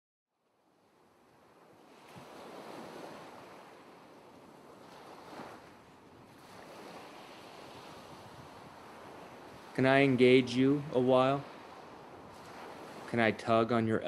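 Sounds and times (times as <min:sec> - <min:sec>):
ocean waves washing in: 0:00.4 - 0:14.0.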